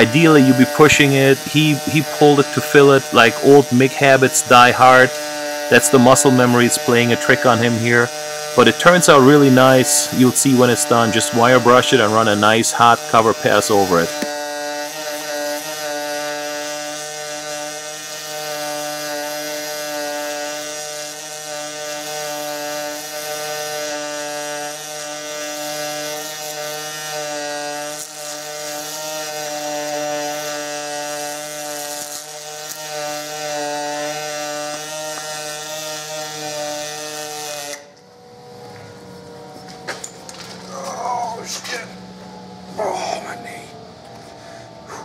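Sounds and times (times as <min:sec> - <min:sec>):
welding arc buzzing and hissing: 0:00.0 - 0:45.0.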